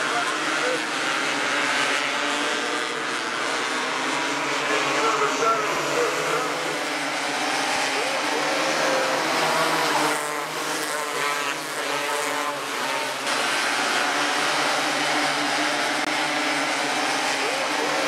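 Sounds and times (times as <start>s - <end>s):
race car engines running hard: 0.0s - 18.0s.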